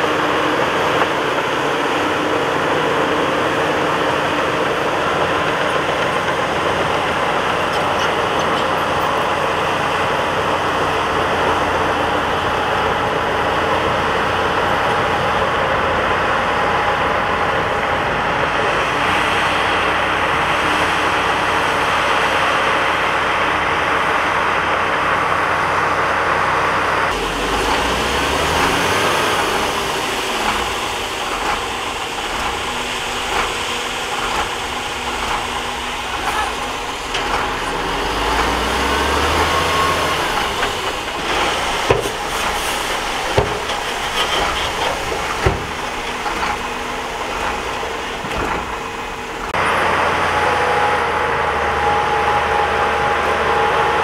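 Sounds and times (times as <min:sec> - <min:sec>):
diesel truck engine running: 0:00.0 - 0:54.0
sliding dirt load rushing: 0:00.0 - 0:54.0.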